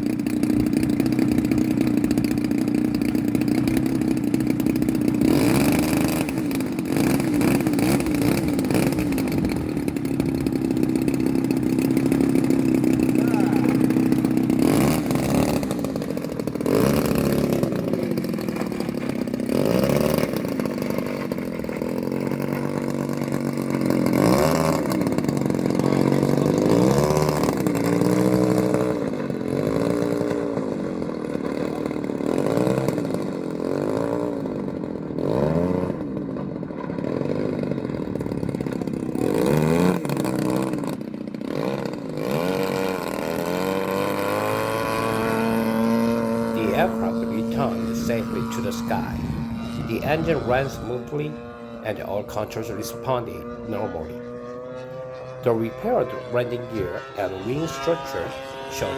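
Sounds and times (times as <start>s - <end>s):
model airplane engine: 0.0s - 58.9s.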